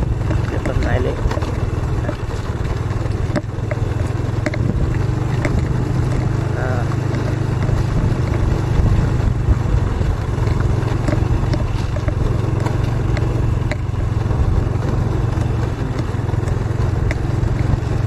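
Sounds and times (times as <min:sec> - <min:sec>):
light clicks and rattles: 0:00.0 - 0:18.0
motorcycle engine running: 0:00.0 - 0:18.0.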